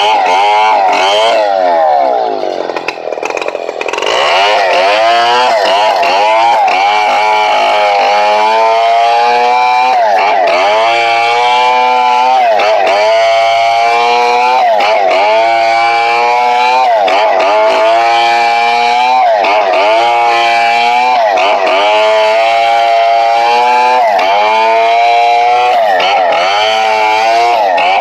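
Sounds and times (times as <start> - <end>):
chainsaw cutting through log: 0.0 - 28.0.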